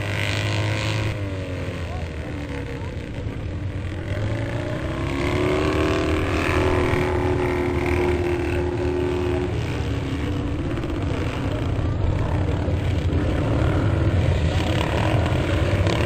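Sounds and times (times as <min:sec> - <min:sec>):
motocross motorcycles racing past: 0:00.0 - 0:16.0.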